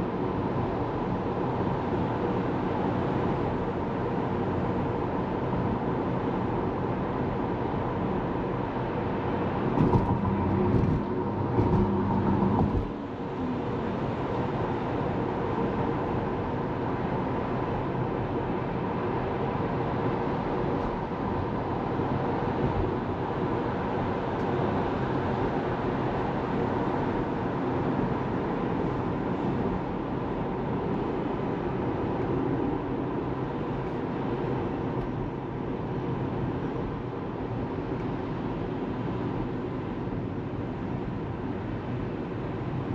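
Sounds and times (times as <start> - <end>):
road and tyre noise inside car: 0.0 - 42.9.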